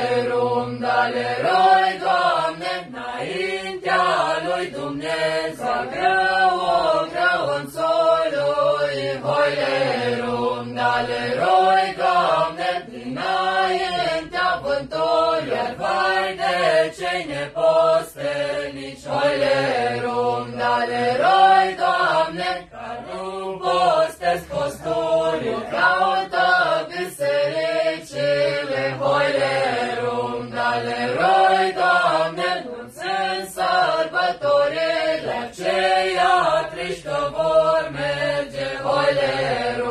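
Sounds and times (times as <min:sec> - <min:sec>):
group singing a carol: 0:00.0 - 0:39.9.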